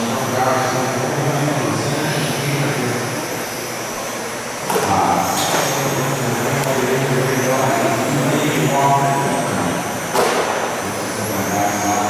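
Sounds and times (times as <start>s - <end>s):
electric motor whine and tyre noise: 0.0s - 12.0s.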